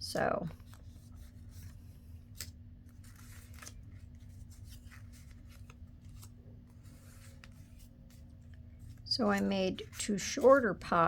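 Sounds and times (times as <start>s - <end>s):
paper clicks and rustles: 0.2s - 11.0s.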